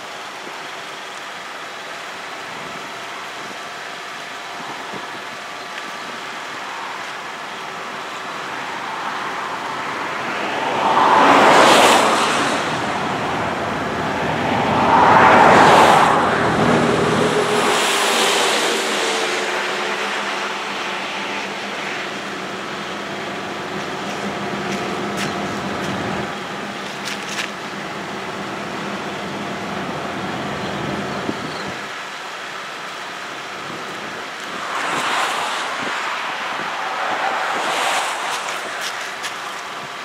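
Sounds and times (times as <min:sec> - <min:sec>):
steady traffic rush: 0:00.0 - 0:40.0
vehicles passing at speed: 0:00.9 - 0:40.0.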